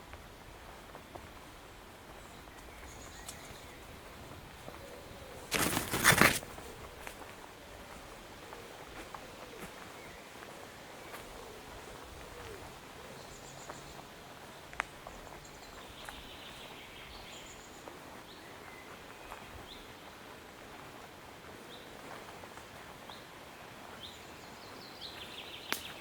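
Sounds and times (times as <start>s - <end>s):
forest birds chirping: 0.0s - 26.0s
steady background hiss: 0.0s - 26.0s.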